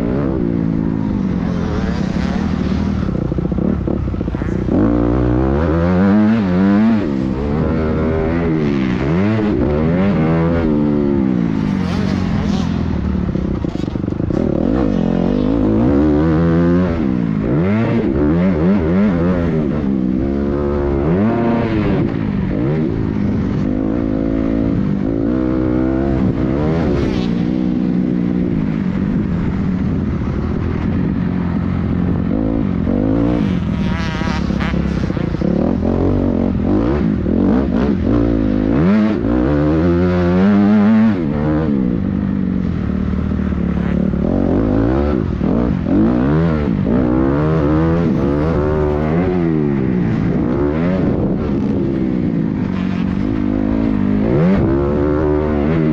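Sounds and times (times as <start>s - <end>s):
motorbike engine revving: 0.0s - 55.9s.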